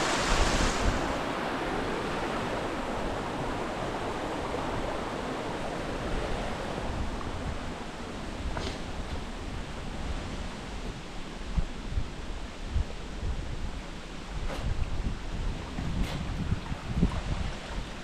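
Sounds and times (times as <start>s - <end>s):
fast river rushing: 0.0s - 18.0s.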